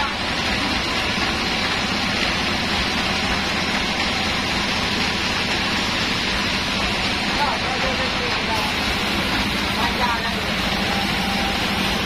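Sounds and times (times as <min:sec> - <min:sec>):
sawmill machinery drone: 0:00.0 - 0:12.0.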